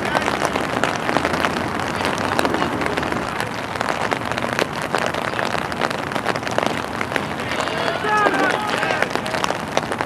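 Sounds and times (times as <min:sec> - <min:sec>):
sharp raindrop hits: 0:00.0 - 0:10.0
steady rain: 0:00.0 - 0:10.0.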